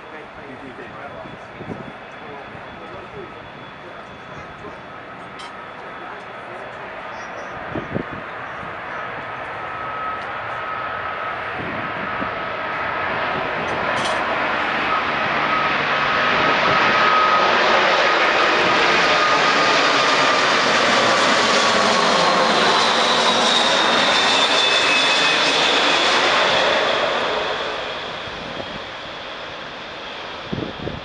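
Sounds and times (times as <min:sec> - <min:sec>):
jet passing low overhead: 0:00.0 - 0:31.0.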